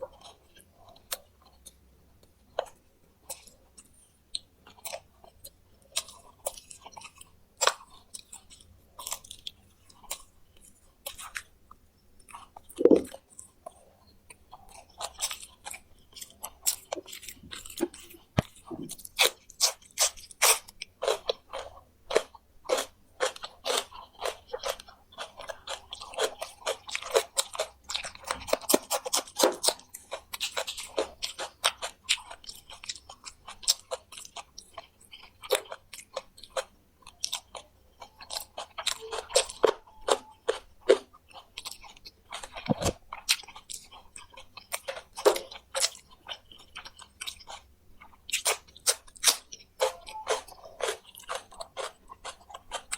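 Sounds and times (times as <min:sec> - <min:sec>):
crunching and chewing bones: 0:00.0 - 0:52.9.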